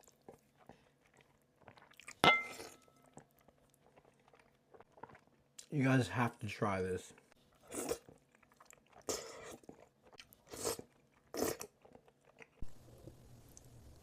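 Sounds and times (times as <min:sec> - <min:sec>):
person chewing crunchy food: 0:00.0 - 0:05.7, 0:07.2 - 0:13.7.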